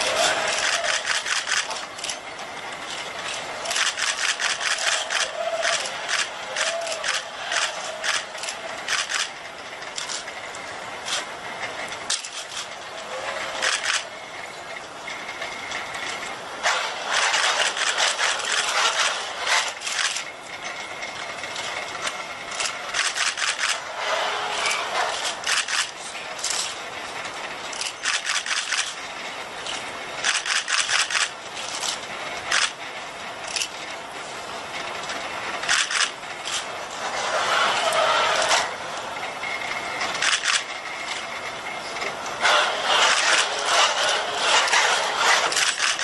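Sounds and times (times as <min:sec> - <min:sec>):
robot servo motors clicking and rattling: 0:00.0 - 0:14.2, 0:15.3 - 0:32.8, 0:33.4 - 0:34.0, 0:34.9 - 0:38.8, 0:40.0 - 0:41.4, 0:42.2 - 0:46.0.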